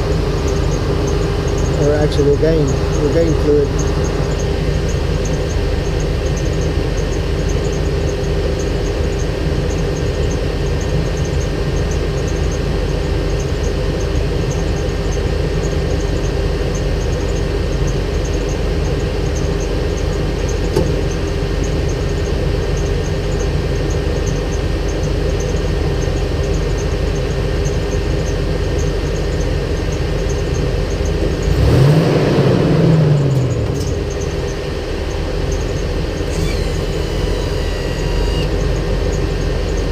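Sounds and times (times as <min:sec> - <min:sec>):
vehicle engine idling and revving: 0:00.0 - 0:39.9.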